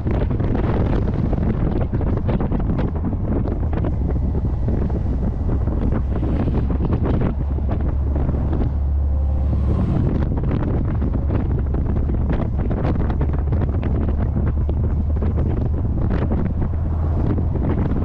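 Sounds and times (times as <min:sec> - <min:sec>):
car engine and road drone: 0:00.0 - 0:18.0
wind buffeting microphone: 0:00.0 - 0:18.0.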